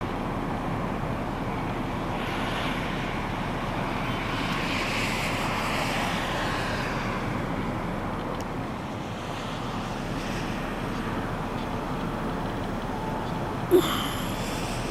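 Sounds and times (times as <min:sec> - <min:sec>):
low engine rumble: 0:00.0 - 0:14.9.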